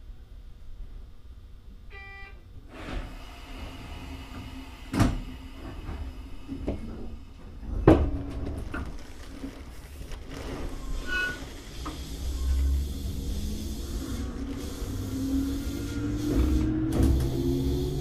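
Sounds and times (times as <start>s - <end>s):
electric train rumbling: 2.9s - 18.0s.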